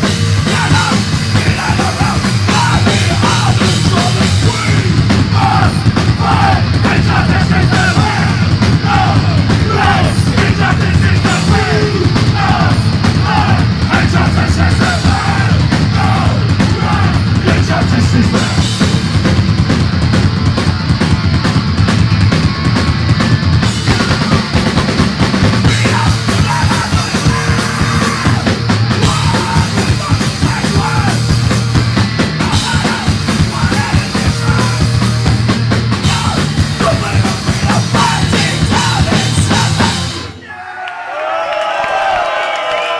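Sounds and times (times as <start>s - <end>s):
crowd cheering: 0.0s - 19.1s, 19.7s - 42.9s
punk band playing live: 0.0s - 40.4s.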